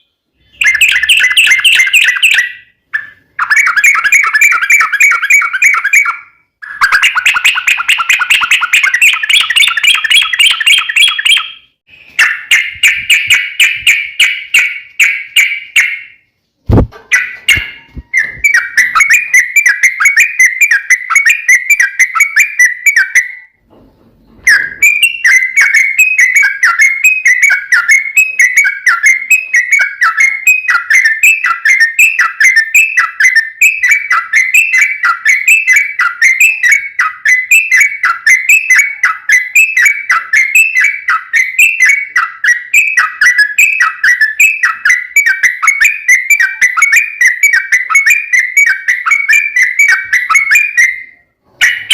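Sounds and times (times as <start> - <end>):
bird singing whistled notes: 0.0 - 23.6, 24.4 - 51.9.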